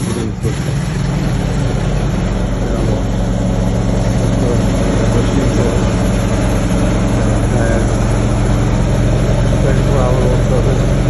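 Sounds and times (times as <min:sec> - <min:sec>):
highway traffic rushing: 0:00.0 - 0:10.3
engine idling: 0:00.0 - 0:11.0.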